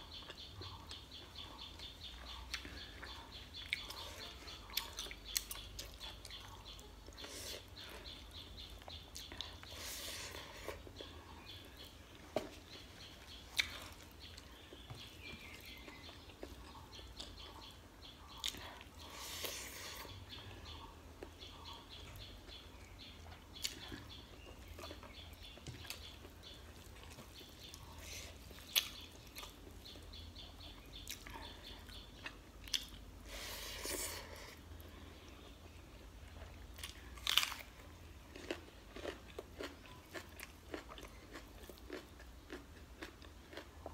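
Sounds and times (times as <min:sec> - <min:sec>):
chewing: 0:00.0 - 0:43.9
faint bird chirping: 0:00.0 - 0:43.9.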